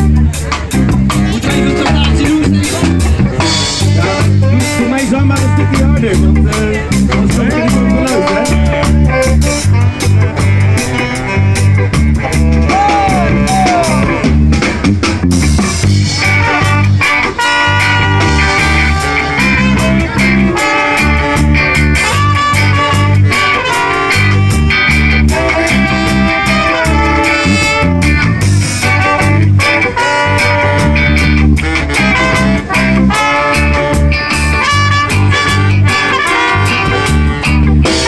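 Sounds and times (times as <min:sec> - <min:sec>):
heavy bass line: 0:00.0 - 0:38.0
live band playing instrumental: 0:00.0 - 0:38.0.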